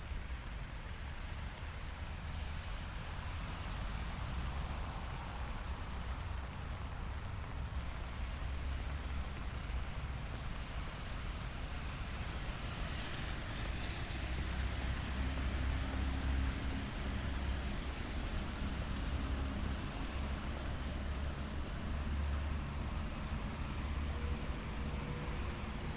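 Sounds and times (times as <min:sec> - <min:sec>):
light rain on a street: 0:00.0 - 0:25.9
low traffic rumble: 0:00.0 - 0:25.9.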